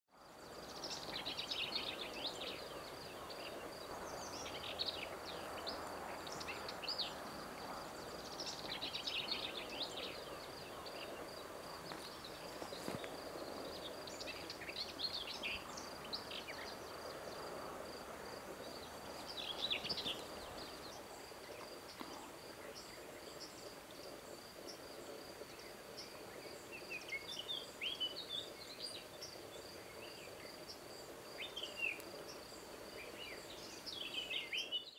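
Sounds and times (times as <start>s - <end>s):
soft background noise: 0.2s - 34.8s
bird song: 0.2s - 34.9s.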